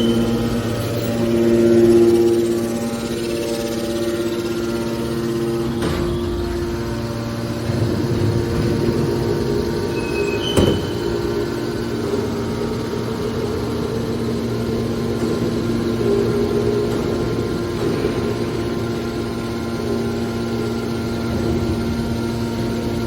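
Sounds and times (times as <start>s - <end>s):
scrap metal baler humming: 0.0s - 23.0s.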